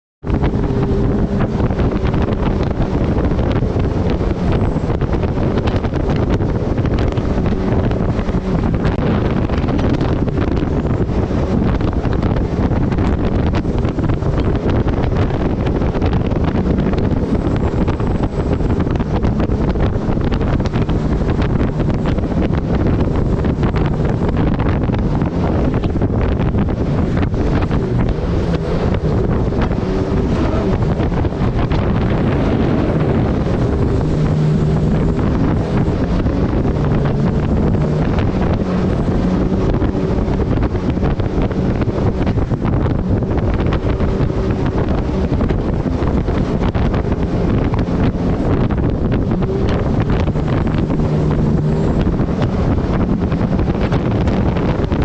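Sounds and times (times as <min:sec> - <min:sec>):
boat engine running: 0:00.2 - 0:55.0
water rushing: 0:00.2 - 0:55.0
wind buffeting microphone: 0:00.2 - 0:55.0.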